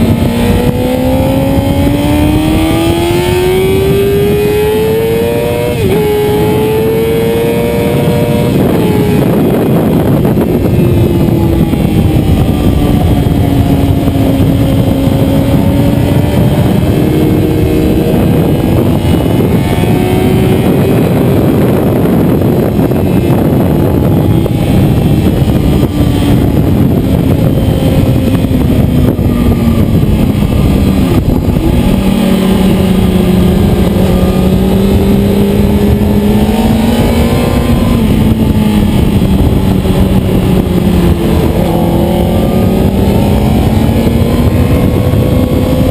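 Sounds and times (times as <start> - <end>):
motorcycle engine running hard: 0.0 - 45.9
rush of wind noise: 0.0 - 45.9.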